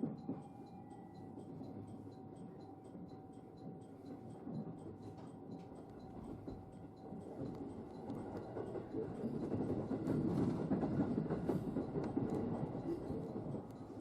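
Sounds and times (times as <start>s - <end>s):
train wheels rumbling on rail: 1.4s - 14.0s.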